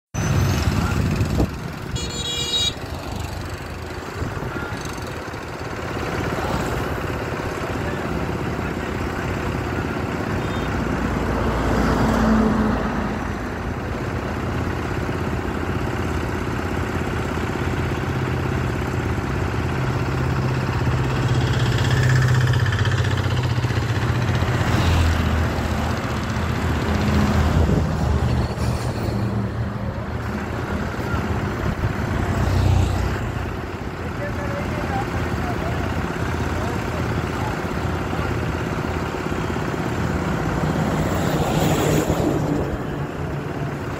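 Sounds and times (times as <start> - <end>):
diesel truck engine running: 0.2 - 43.9.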